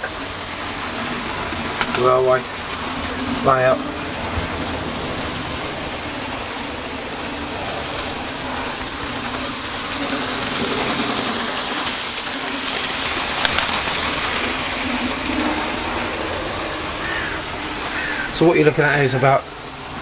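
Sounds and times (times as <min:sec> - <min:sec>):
model train motor whirring: 0:00.0 - 0:18.4
hiss: 0:00.0 - 0:20.0.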